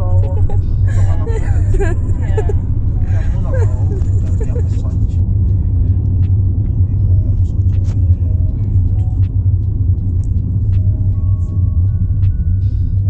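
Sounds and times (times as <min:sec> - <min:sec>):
moving car rumble: 0:00.0 - 0:13.0.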